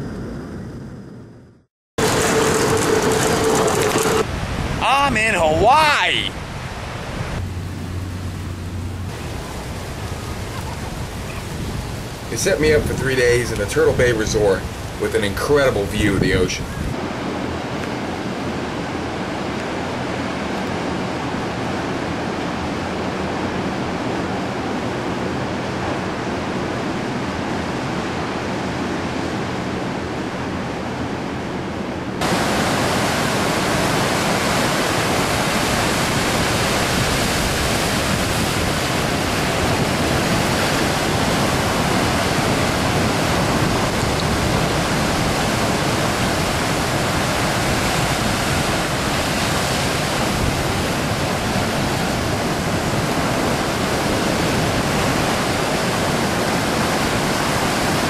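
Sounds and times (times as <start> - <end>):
ocean surf breaking: 2.0 - 58.0.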